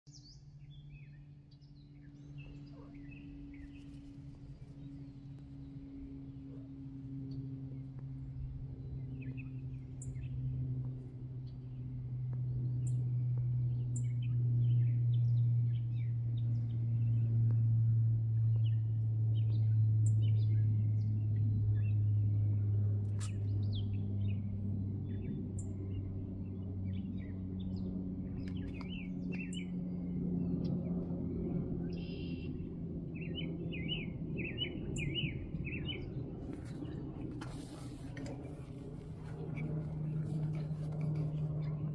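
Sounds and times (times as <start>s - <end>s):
small birds chirping: 0.1s - 17.6s, 18.4s - 41.9s
distant jet airliner drone: 0.1s - 41.9s.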